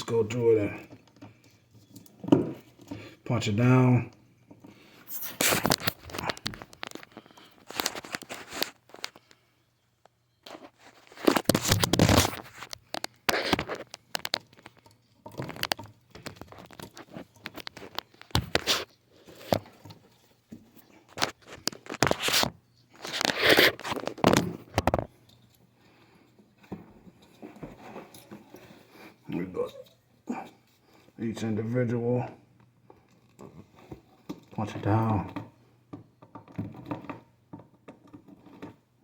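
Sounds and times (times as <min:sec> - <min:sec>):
wires scraping and crinkling: 0:00.0 - 0:39.0.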